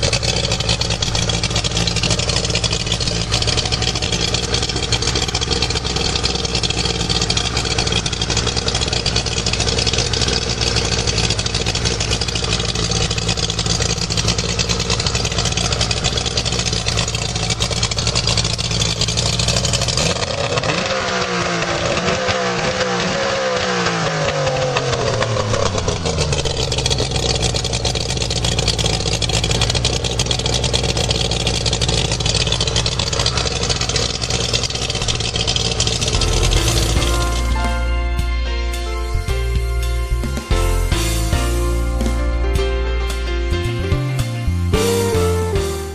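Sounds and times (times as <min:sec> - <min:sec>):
outboard engine running: 0:00.0 - 0:42.3.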